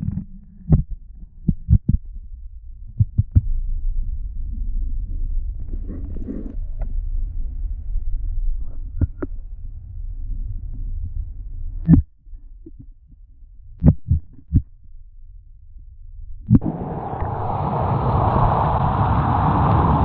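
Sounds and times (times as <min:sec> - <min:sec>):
underwater rumble of flowing water: 0:00.0 - 0:20.0.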